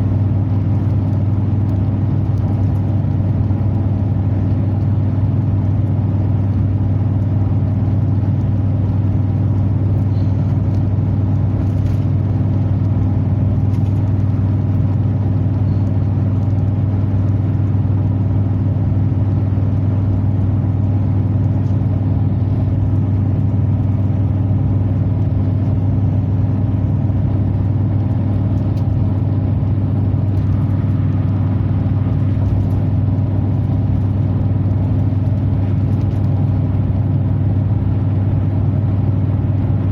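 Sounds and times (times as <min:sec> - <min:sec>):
truck exhaust drone inside cab: 0:00.0 - 0:39.9.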